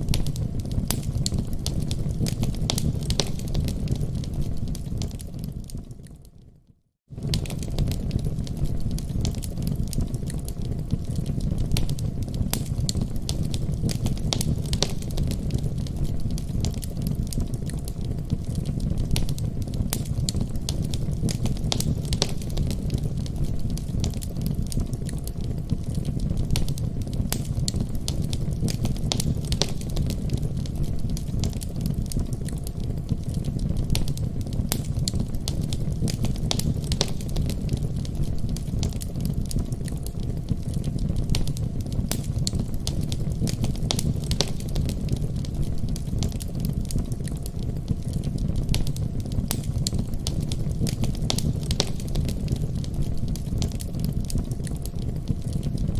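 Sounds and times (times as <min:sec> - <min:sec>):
wood fire crackling and popping: 0:00.0 - 0:55.9
steady low rumble: 0:07.2 - 0:55.9.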